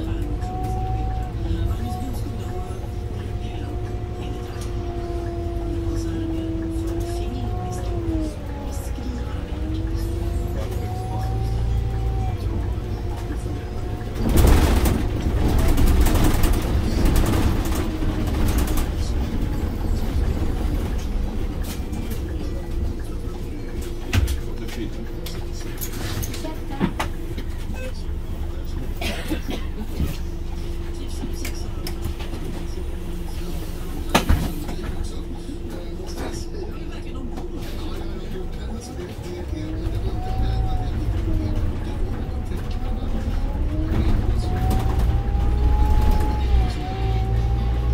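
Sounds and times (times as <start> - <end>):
bus engine and road hum: 0.0 - 47.9
bus rattling on bumpy road: 0.0 - 47.9.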